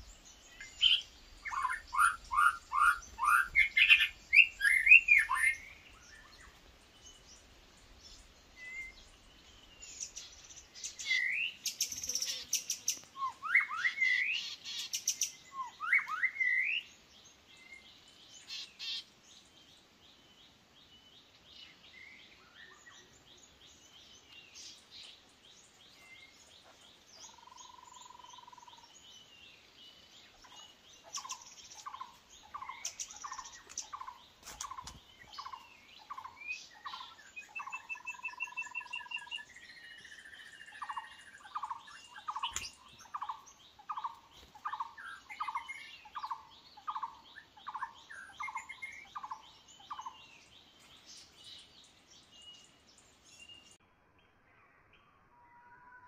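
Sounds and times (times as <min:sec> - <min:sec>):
songbirds calling: 0:00.0 - 0:56.0.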